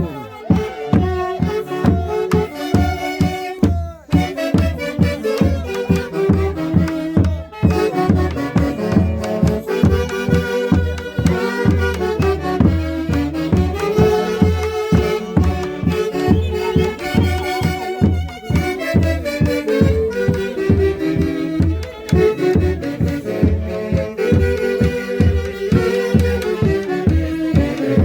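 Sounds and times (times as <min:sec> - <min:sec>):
folk orchestra playing: 0:00.0 - 0:28.0.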